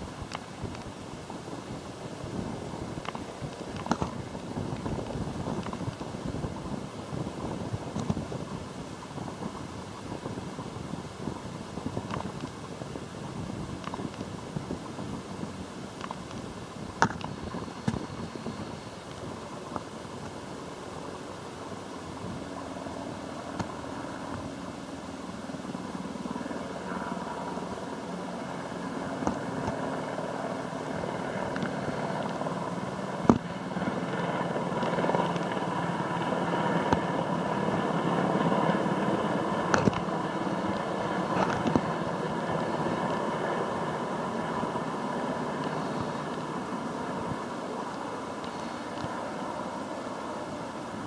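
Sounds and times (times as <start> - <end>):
helicopter rotor and turbine noise: 0.0 - 51.0.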